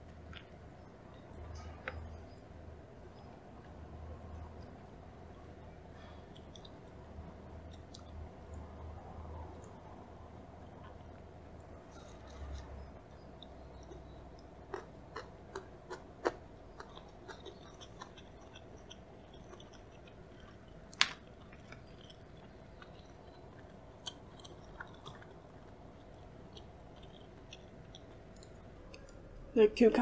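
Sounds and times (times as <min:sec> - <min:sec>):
chewing with crisp crunches: 0:00.1 - 0:29.4.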